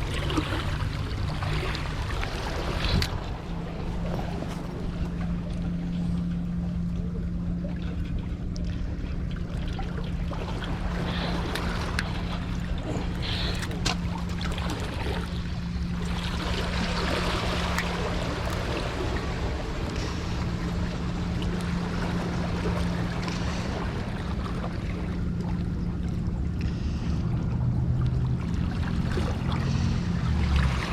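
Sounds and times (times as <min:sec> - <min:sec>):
steady low hum: 0:00.0 - 0:30.9
water noise: 0:00.0 - 0:30.9
wind: 0:00.0 - 0:30.9.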